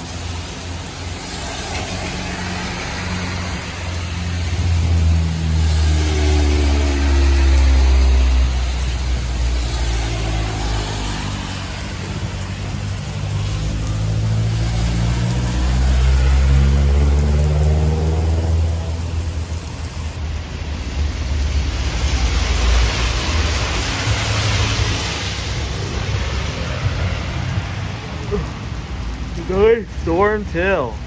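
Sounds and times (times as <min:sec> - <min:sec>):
cars driving on wet road: 0:00.0 - 0:31.0
rain hissing on wet street: 0:00.0 - 0:31.0.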